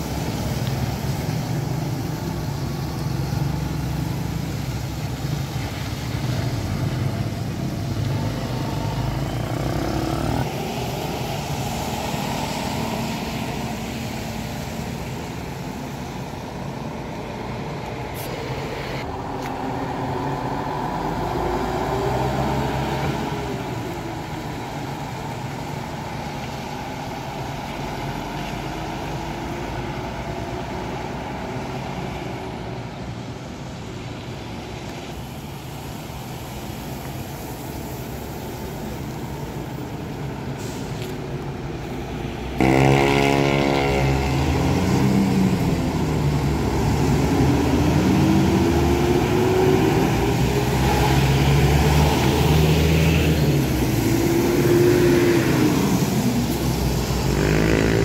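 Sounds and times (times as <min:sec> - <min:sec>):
coach diesel engine: 0:00.0 - 0:58.0
louder coach engine: 0:00.0 - 0:58.0
traffic noise: 0:00.0 - 0:58.0
tyre hiss on wet pavement: 0:00.0 - 0:58.0.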